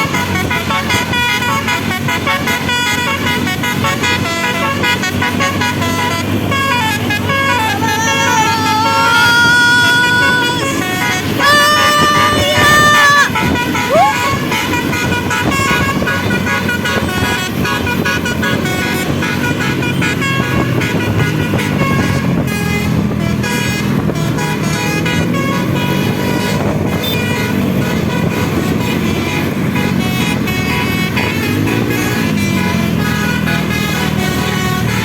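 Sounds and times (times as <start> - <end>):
bus engine revving: 0.0 - 35.0
multi-tone bus horn melody: 0.0 - 35.0.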